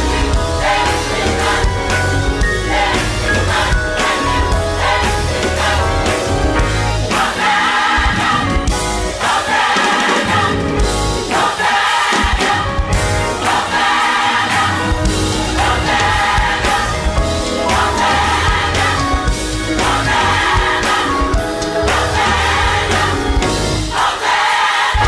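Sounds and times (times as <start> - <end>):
band accompanying: 0.0 - 25.0
gospel choir singing: 0.0 - 25.0.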